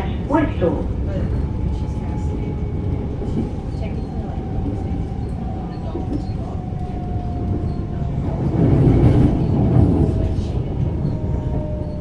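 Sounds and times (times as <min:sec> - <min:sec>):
electric train rumbling on rails: 0:00.0 - 0:12.0.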